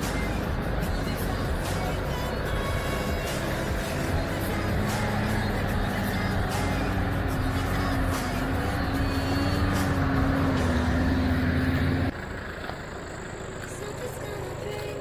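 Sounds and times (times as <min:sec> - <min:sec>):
vehicle engine running under load: 0:00.0 - 0:15.0.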